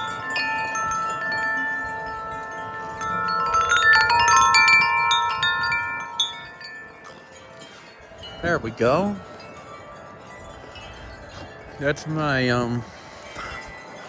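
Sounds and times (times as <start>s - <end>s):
tubular wind chime ringing: 0.0s - 14.0s.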